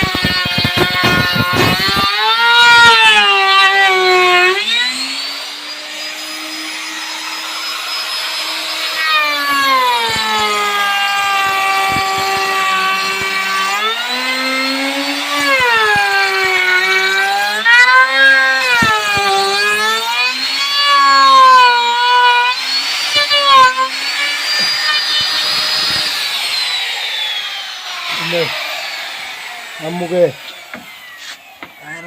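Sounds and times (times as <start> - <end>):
electric drill whining: 0.0 - 32.0.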